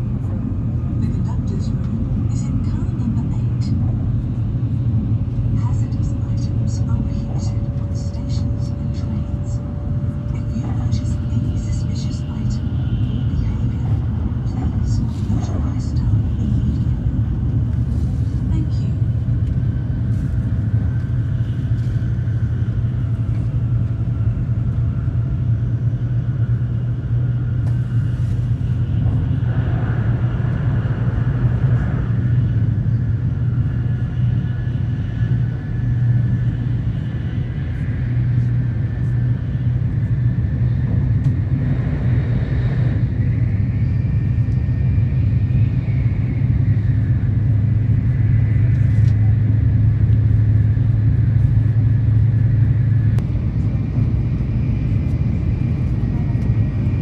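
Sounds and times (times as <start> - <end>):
train cabin rumble: 0.0 - 57.0.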